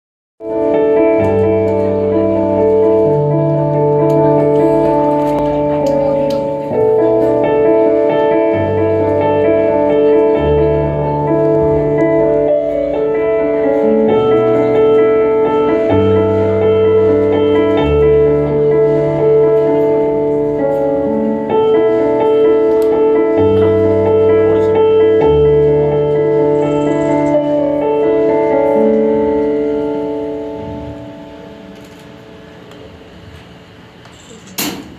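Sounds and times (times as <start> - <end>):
sustained keyboard chords: 0.4 - 34.0.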